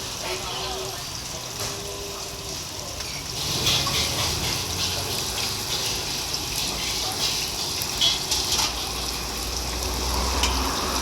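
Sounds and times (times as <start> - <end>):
hot oil sizzling in a wok: 0.0 - 11.0.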